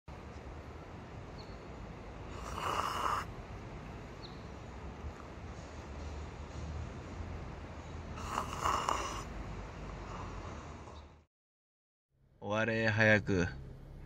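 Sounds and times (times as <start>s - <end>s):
low outdoor rumble: 0.1s - 2.6s, 3.2s - 8.4s, 9.2s - 11.3s, 12.2s - 14.0s.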